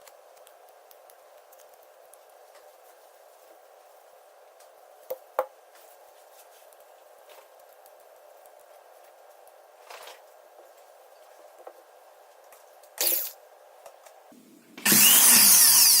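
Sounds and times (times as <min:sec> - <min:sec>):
steady low hiss: 0:00.0 - 0:14.9.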